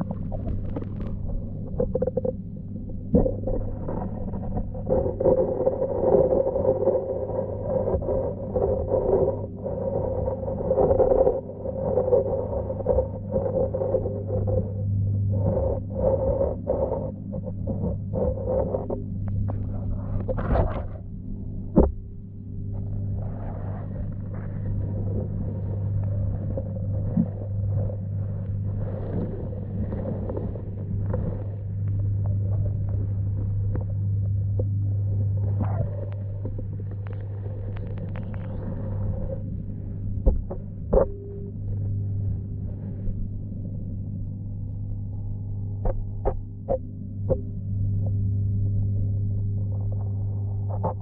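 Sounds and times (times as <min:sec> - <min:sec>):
underwater low hum: 0:00.0 - 0:51.0
water churning underwater: 0:00.0 - 0:51.0.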